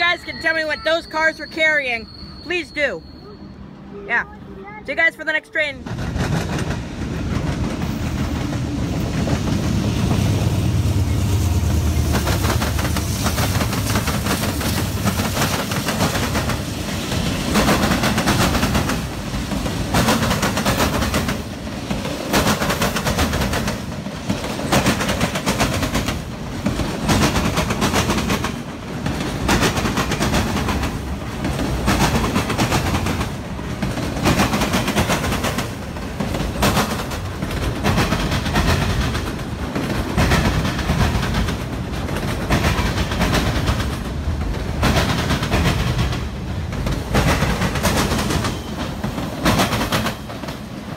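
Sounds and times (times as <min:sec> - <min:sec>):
diesel locomotive rumble: 0:03.0 - 0:50.9
train wheels clattering over joints: 0:05.8 - 0:10.8, 0:11.5 - 0:50.9.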